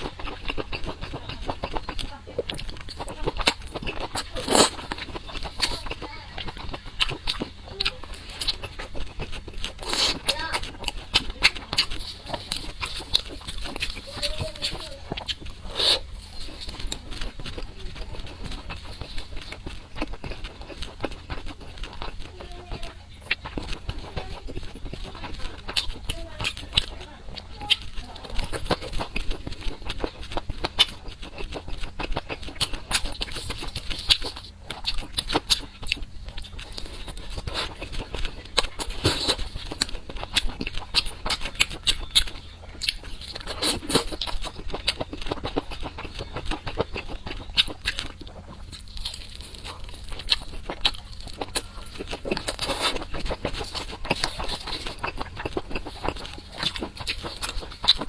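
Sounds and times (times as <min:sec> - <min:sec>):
food being chewed: 0:00.0 - 0:58.0.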